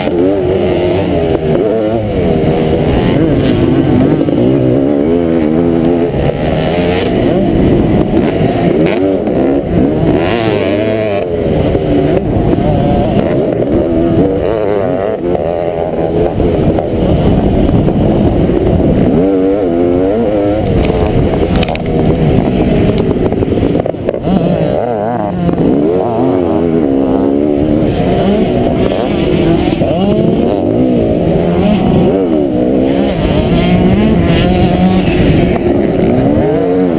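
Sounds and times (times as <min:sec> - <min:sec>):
motocross engine revving: 0:00.0 - 0:36.9.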